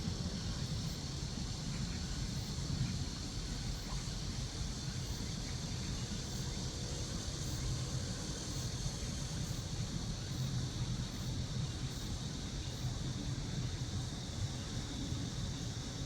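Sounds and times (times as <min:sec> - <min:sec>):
constant high hiss: 0:00.0 - 0:16.0.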